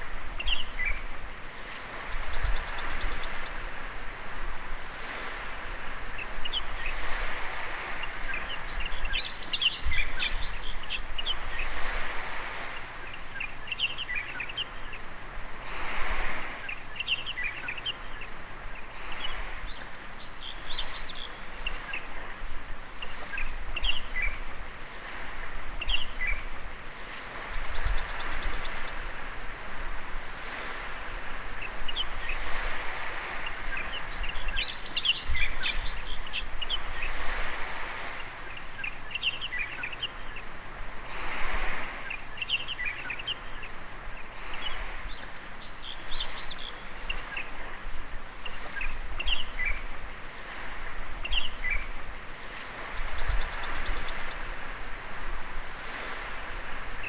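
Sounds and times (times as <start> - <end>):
small waves washing on beach: 0.0 - 57.0.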